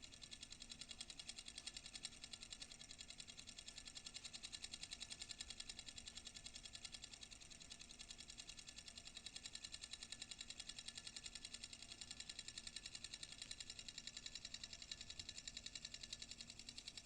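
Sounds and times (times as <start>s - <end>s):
coil motor fast ticking: 0.0s - 17.0s.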